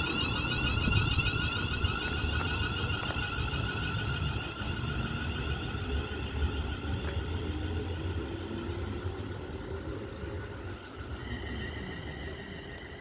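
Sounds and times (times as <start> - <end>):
electric train running: 0.0 - 13.0.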